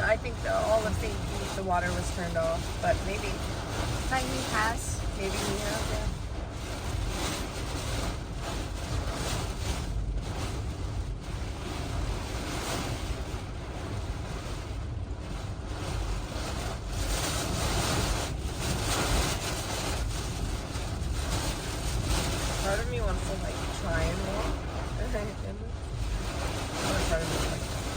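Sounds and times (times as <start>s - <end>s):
strong gusting wind: 0.0s - 27.9s
wind buffeting microphone: 0.0s - 27.9s.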